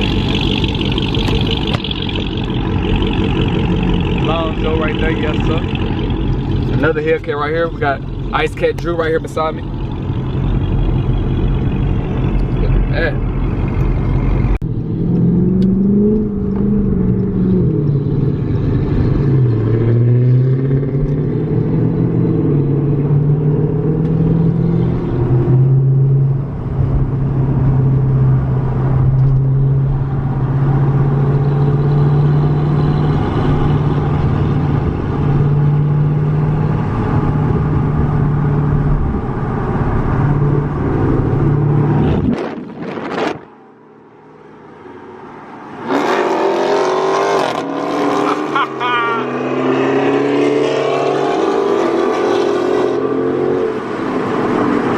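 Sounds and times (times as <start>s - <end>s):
car engine exhaust drone: 0.0s - 44.1s.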